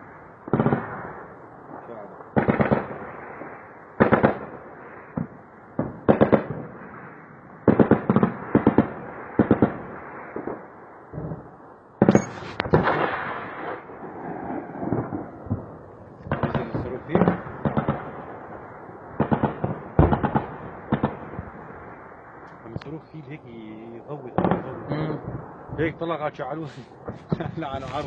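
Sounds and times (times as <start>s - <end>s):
gunshot echoes: 0.0s - 11.4s, 12.0s - 28.0s
distant rapid weapons fire: 0.0s - 22.3s, 24.3s - 26.0s, 26.8s - 28.0s.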